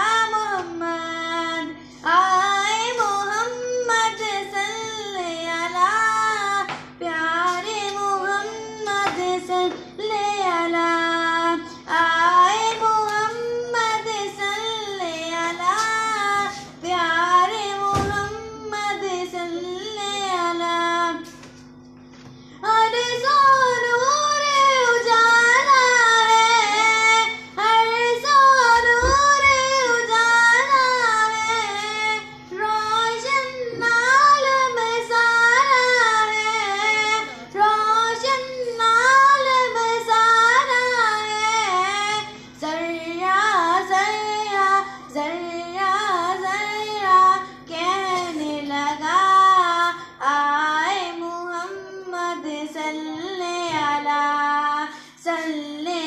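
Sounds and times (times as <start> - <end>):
faint steady hum: 0.0 - 56.0
girl singing into a microphone: 0.0 - 56.0.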